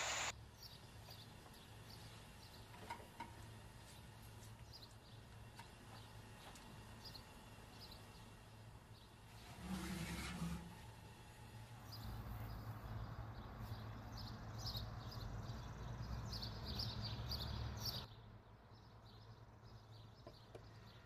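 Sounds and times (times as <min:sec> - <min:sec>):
small birds chirping: 0:00.0 - 0:02.8, 0:03.8 - 0:09.2, 0:11.8 - 0:21.0.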